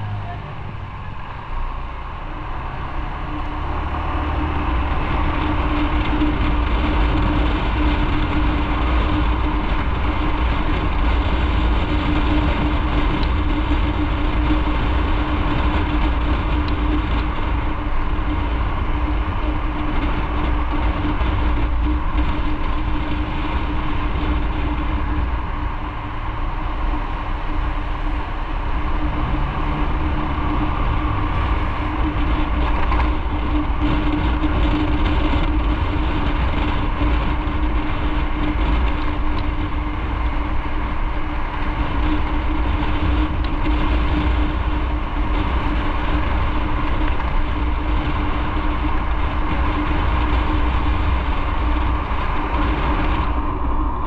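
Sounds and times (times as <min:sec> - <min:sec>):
continuous low rumble: 0:00.0 - 0:54.0
motorcycle engine drone: 0:00.0 - 0:54.0.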